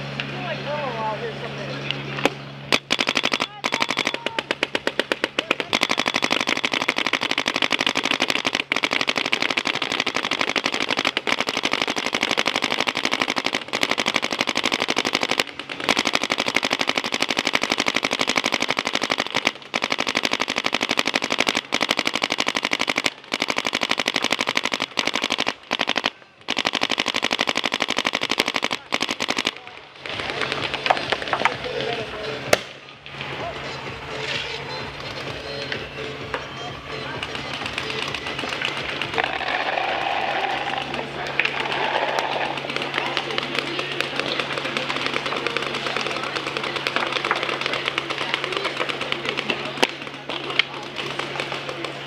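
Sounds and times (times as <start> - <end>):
paintball markers rapid firing: 2.2 - 33.4, 34.3 - 52.0.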